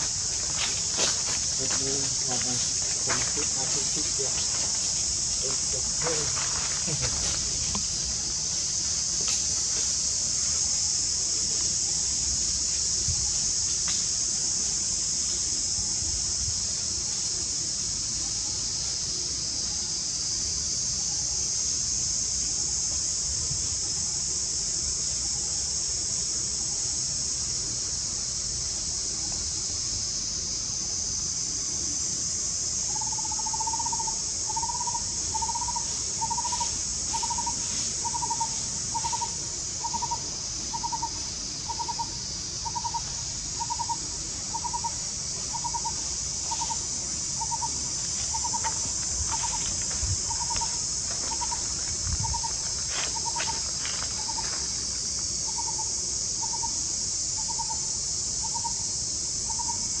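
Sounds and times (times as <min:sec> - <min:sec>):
high drone of insects: 0:00.0 - 1:00.0.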